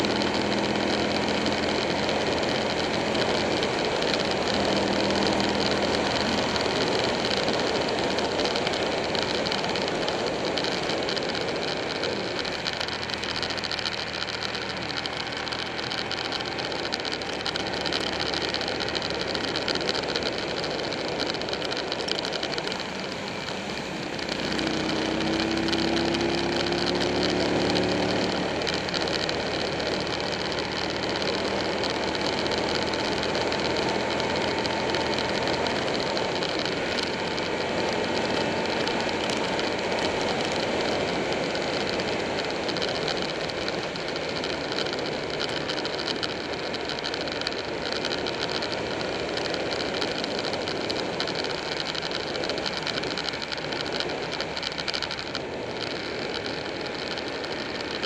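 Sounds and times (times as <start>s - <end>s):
motorcycle engine pulling: 0.0s - 58.0s.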